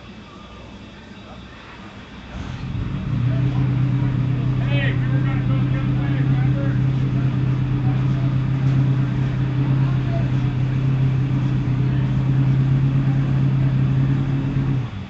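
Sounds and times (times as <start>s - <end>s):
loud mechanical drone: 1.6s - 15.0s.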